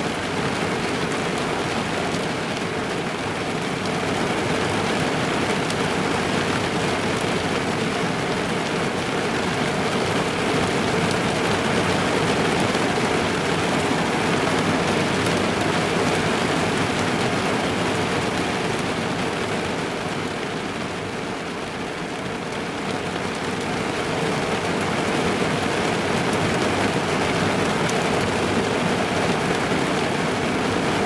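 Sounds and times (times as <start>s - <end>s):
rain drumming on a car roof: 0.0s - 31.0s.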